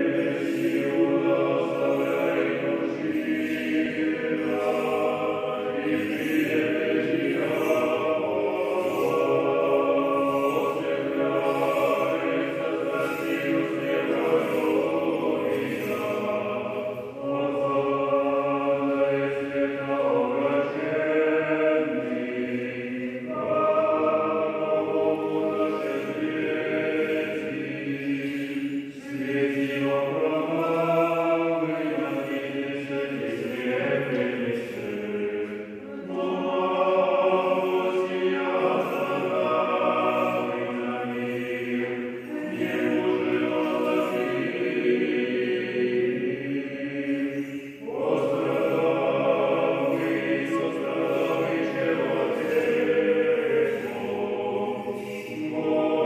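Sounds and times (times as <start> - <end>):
choir chanting a hymn: 0.0 - 56.0.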